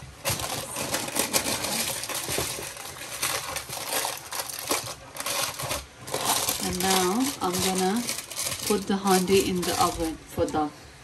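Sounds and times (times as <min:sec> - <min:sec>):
baking paper crinkling: 0:00.0 - 0:10.7.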